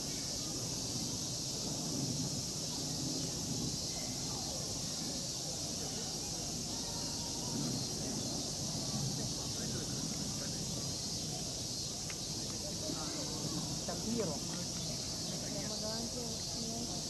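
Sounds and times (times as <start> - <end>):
insects droning: 0.0 - 17.0
murmur of distant voices: 0.0 - 17.0.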